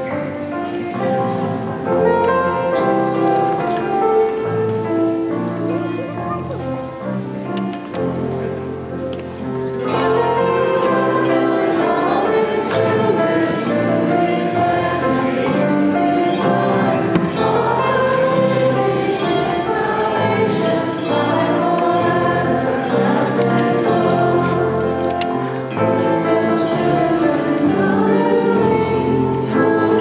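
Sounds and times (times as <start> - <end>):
congregation singing a hymn: 0.0 - 30.0.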